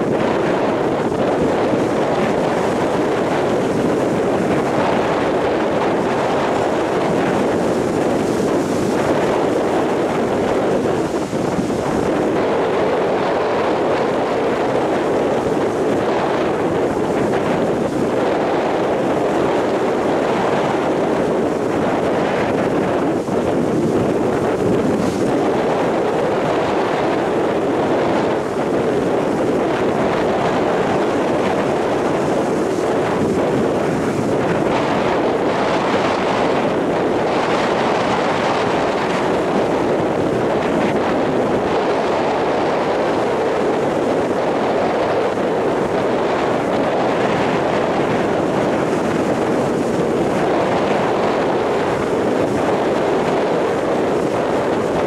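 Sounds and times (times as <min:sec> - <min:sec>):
surf breaking on beach: 0:00.0 - 0:55.0
wind on microphone: 0:00.0 - 0:55.0.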